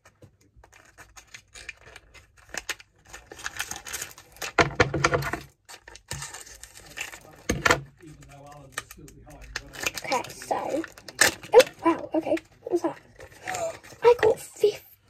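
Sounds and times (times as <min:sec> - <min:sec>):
wrapper crinkling and tearing: 0:00.0 - 0:14.6.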